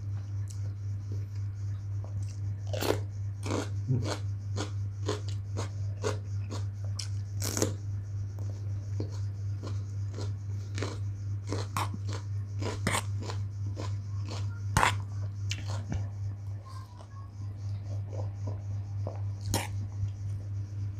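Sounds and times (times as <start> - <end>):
steady low hum: 0.0 - 20.9
man chewing crisp chili: 0.1 - 16.1, 17.0 - 20.8.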